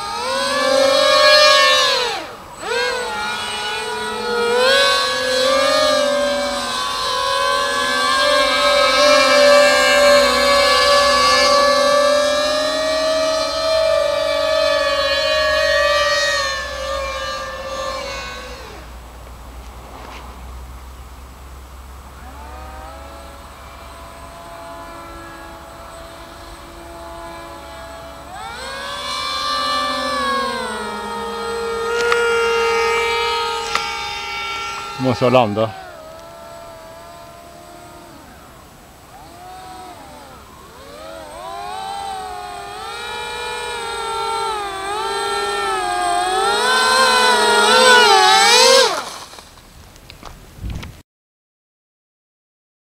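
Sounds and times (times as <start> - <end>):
model plane motors whining: 0.0 - 51.0.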